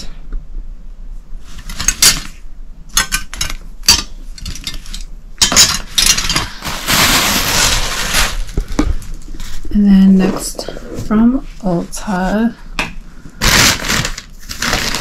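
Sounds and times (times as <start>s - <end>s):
dense rustling handling noise: 1.1s - 15.0s.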